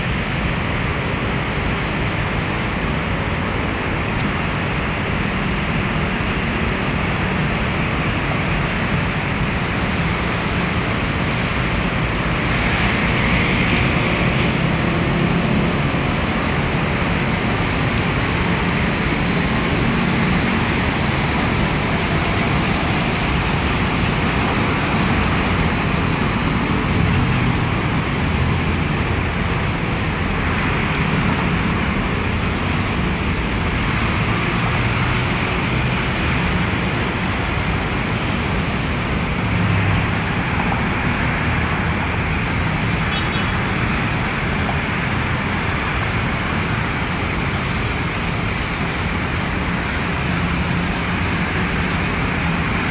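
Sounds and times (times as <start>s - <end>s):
busy road traffic: 0.0s - 52.9s.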